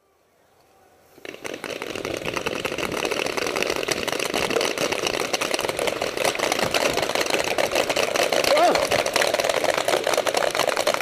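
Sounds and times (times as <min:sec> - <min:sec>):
paintball markers firing rapidly: 0:01.2 - 0:11.0.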